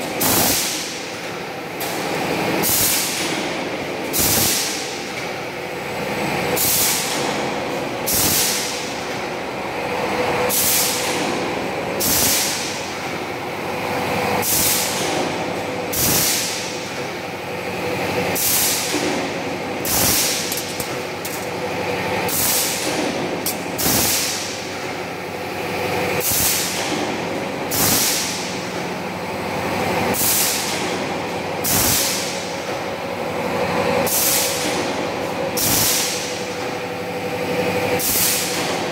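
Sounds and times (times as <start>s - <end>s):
roll forming machine humming: 0.0s - 38.9s.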